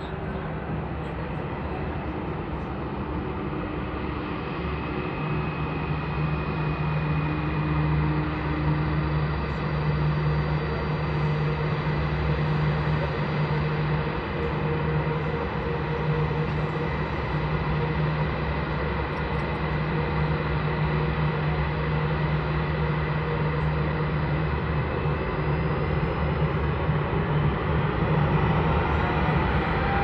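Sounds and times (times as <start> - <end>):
jet engines droning: 0.0 - 30.0.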